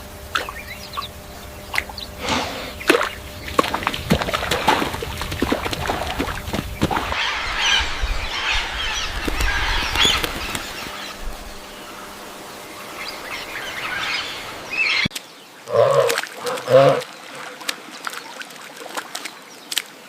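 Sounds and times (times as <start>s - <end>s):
many birds chattering: 0.0s - 17.6s.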